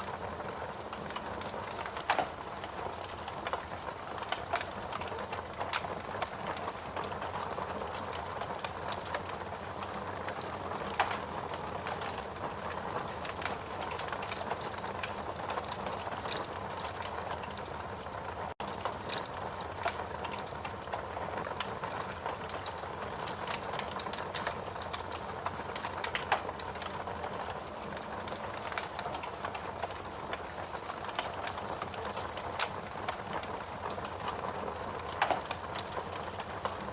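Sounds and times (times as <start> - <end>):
fire popping: 0.0 - 36.9
log fire hissing and crackling: 0.0 - 36.9.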